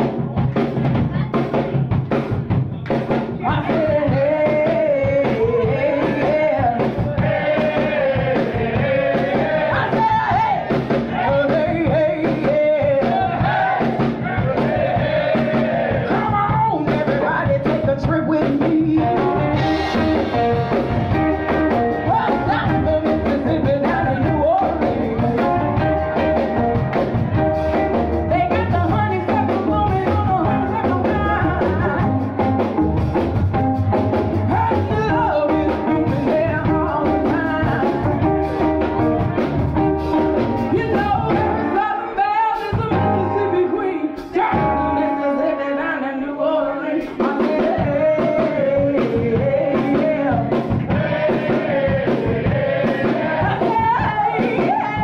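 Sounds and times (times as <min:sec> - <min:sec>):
upbeat rock and roll song: 0:00.0 - 0:55.0.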